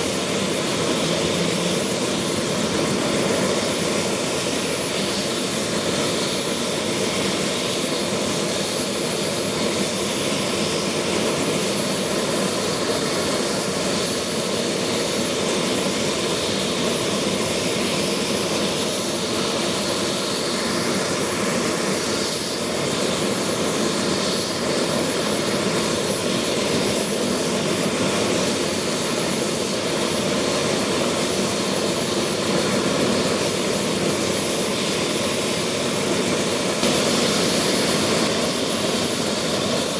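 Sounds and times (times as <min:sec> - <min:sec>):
helicopter turbine engines running: 0:00.0 - 0:39.9.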